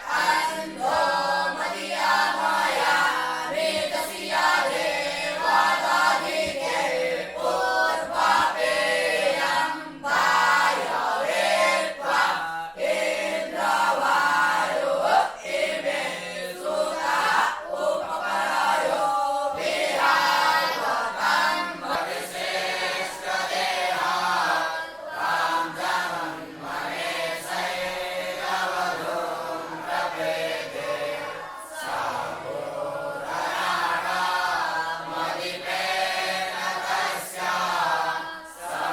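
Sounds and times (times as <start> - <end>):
group chanting in unison: 0.0 - 38.9.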